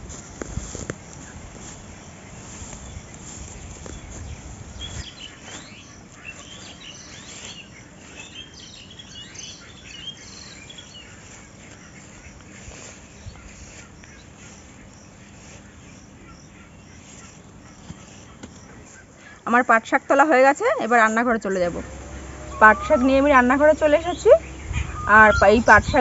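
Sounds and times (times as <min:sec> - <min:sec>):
insects buzzing: 0:00.2 - 0:26.0
small birds chirping: 0:01.0 - 0:26.0.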